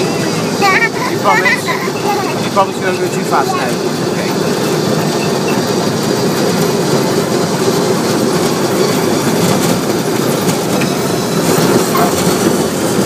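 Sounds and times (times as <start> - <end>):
ride car wheels clattering on rails: 0.0 - 13.0.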